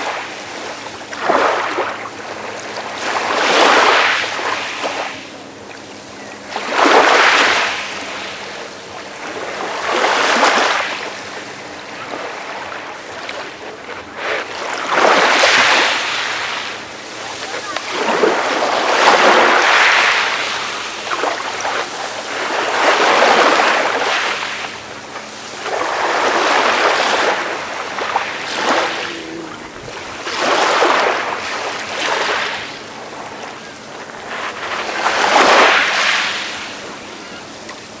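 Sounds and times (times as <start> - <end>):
calm sea waves washing in: 0.0 - 38.0.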